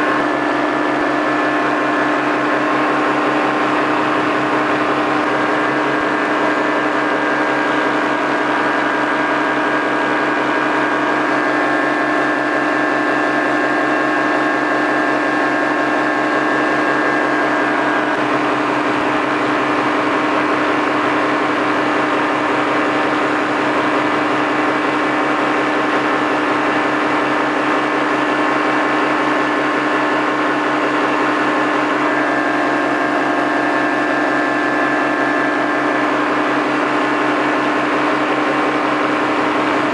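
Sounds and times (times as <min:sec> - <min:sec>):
paramotor engine drone: 0:00.0 - 0:39.9.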